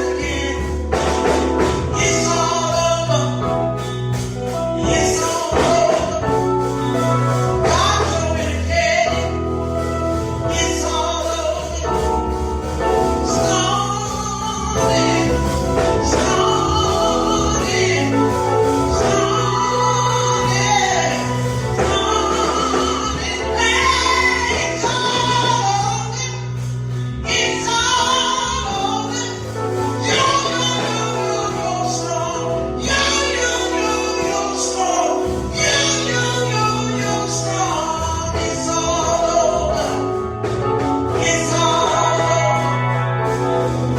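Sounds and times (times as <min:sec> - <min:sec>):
band with sustained bass: 0:00.0 - 0:43.9
gospel singers: 0:00.0 - 0:43.9.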